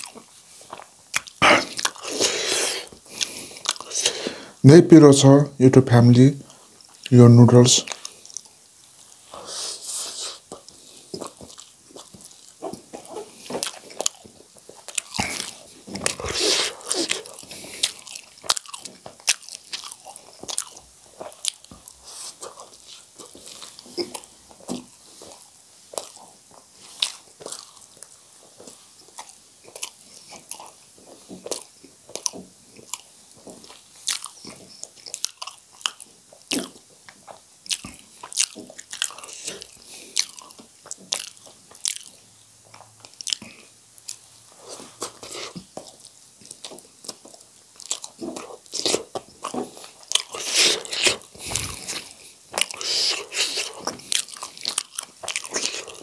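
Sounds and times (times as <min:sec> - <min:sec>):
person chewing and eating: 0:00.0 - 0:04.6, 0:06.4 - 0:07.2, 0:07.8 - 0:56.0.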